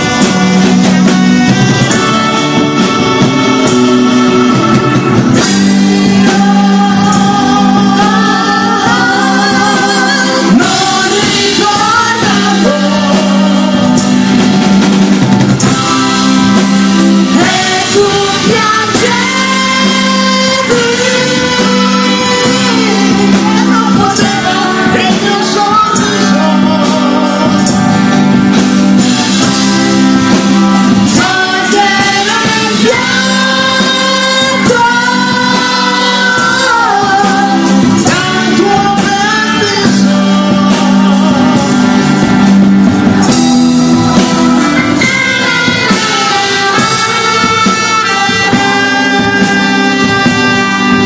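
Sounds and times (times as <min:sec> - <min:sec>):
live pop-rock band: 0:00.0 - 0:51.0
man singing: 0:00.0 - 0:51.0
woman singing: 0:03.0 - 0:14.4, 0:15.6 - 0:28.1, 0:30.1 - 0:42.5, 0:43.2 - 0:51.0.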